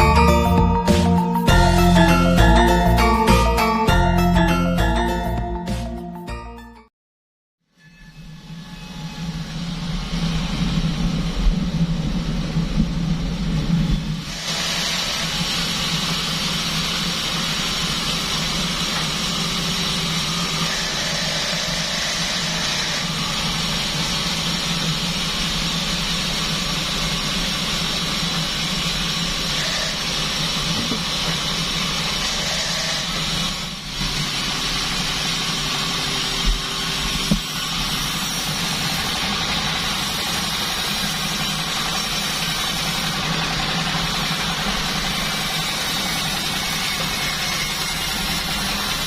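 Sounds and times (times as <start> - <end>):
sawmill machine hum: 0.0 - 6.1, 8.4 - 49.0.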